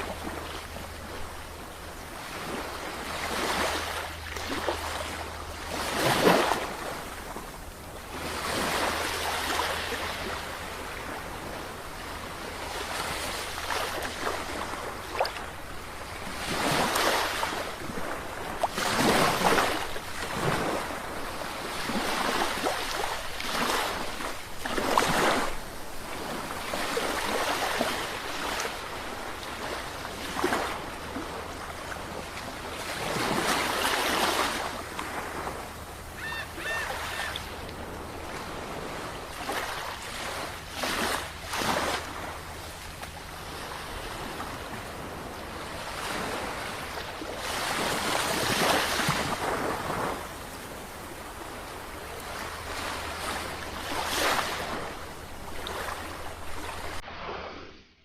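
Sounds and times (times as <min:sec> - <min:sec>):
sea waves breaking: 0:00.0 - 0:57.8.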